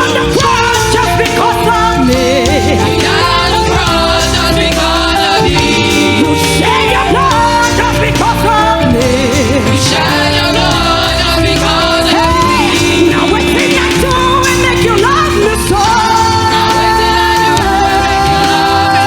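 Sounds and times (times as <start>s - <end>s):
choir singing gospel: 0.0s - 19.0s
keyboard bass and drums: 0.0s - 19.0s.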